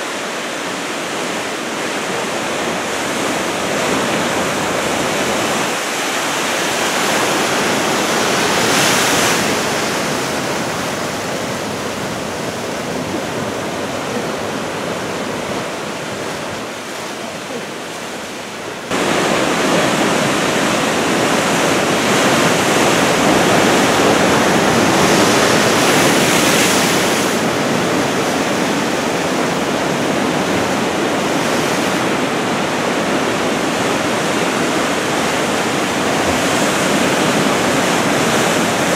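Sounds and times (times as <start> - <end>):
heavy surf breaking: 0.0 - 38.9.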